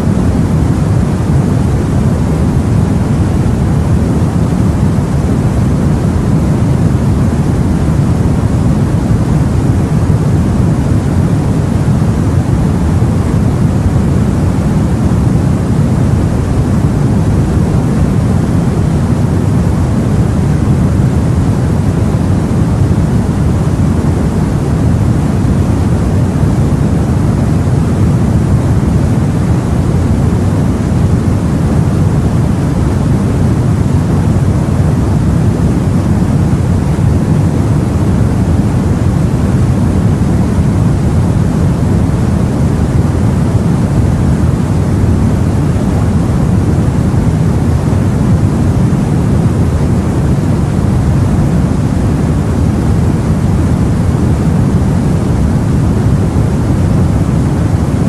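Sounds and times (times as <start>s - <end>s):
sea and wind rushing: 0.0s - 58.0s.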